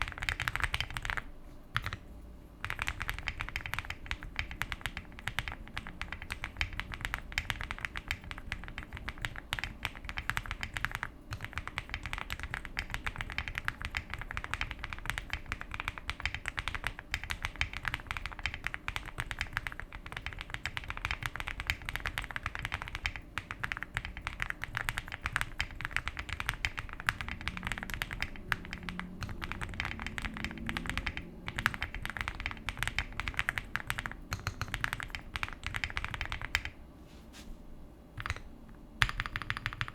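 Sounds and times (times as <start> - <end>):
fast typing on mechanical keyboard: 0.0 - 2.0, 2.6 - 36.8, 38.2 - 39.9.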